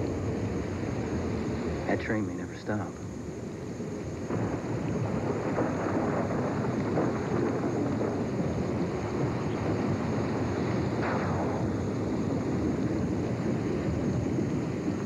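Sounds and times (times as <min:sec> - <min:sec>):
storm wind rushing: 0:00.0 - 0:15.0.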